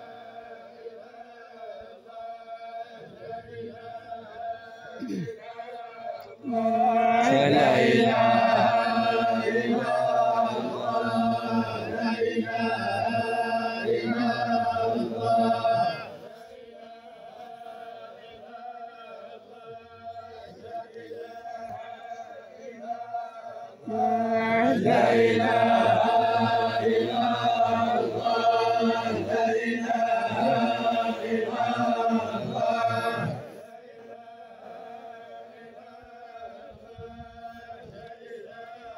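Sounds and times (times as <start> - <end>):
men chanting in unison: 0.0 - 38.9.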